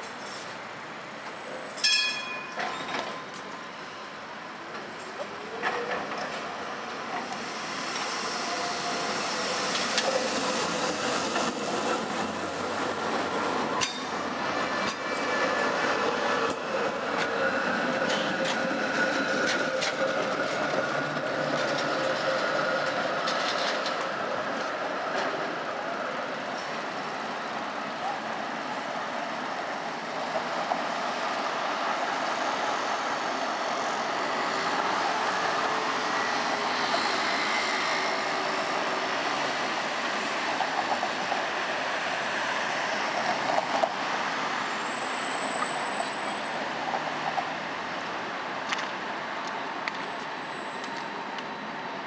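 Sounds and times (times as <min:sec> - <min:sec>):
rumble of passing traffic and trams: 0:00.0 - 0:52.0.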